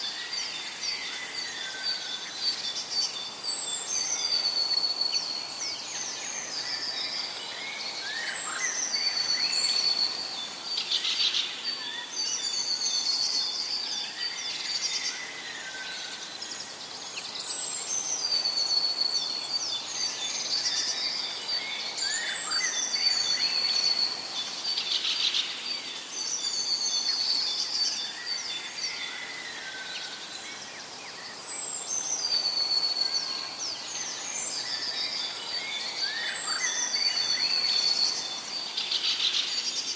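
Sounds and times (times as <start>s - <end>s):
background hiss: 0.0s - 39.9s
birds singing and chirping: 0.0s - 39.9s.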